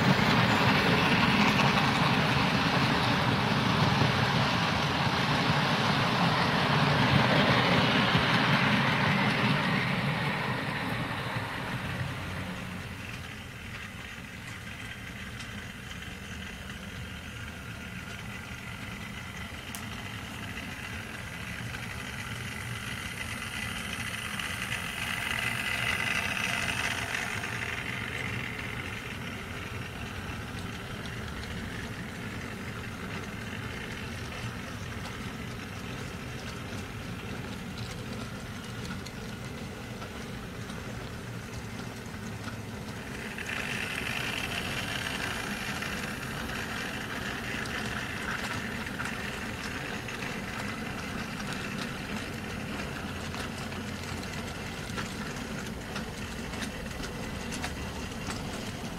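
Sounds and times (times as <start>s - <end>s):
model train running on track: 0.0s - 58.9s.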